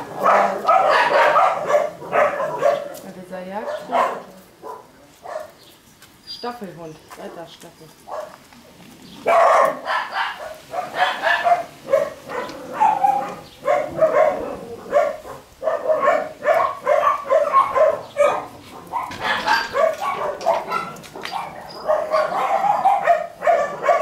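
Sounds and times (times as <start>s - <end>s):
small dogs yapping: 0.0s - 5.6s, 8.0s - 24.0s.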